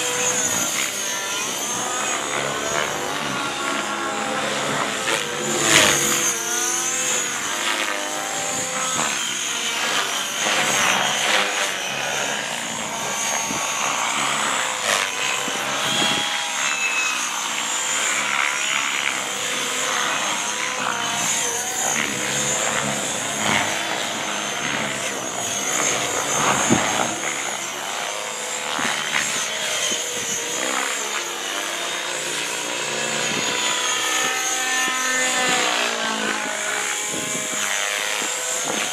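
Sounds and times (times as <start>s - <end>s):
helicopter motor whine: 0.0s - 38.9s
rotor blade noise: 0.0s - 38.9s.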